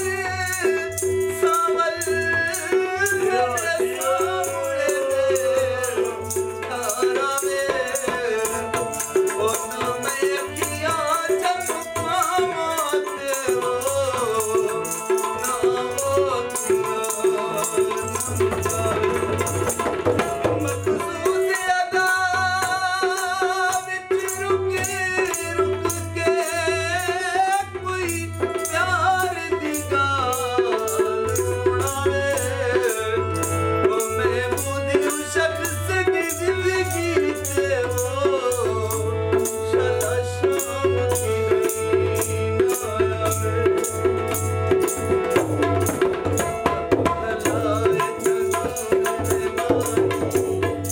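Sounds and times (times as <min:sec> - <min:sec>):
harmonium: 0:00.0 - 0:50.9
man singing: 0:00.0 - 0:50.9
tabla beat: 0:00.0 - 0:50.9.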